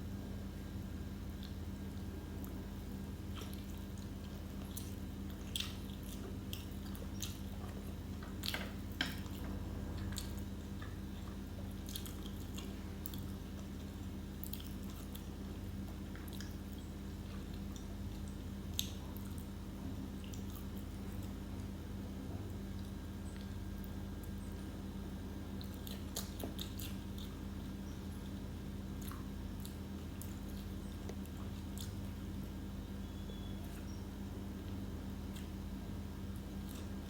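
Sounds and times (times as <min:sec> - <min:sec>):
steady low hum: 0:00.0 - 0:37.0
person chewing crunchy food: 0:01.2 - 0:24.4, 0:25.2 - 0:37.0.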